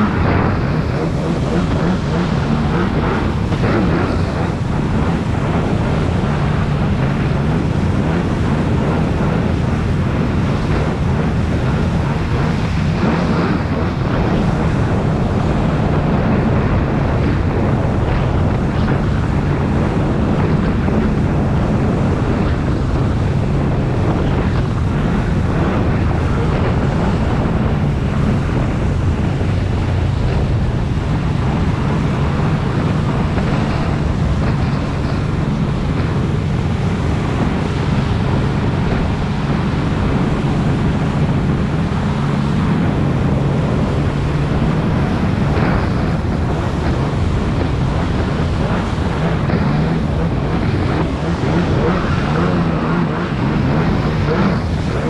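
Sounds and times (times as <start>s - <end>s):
jet ski engine: 0.0s - 55.0s
water rushing: 0.0s - 55.0s
wind noise on microphone: 0.0s - 55.0s.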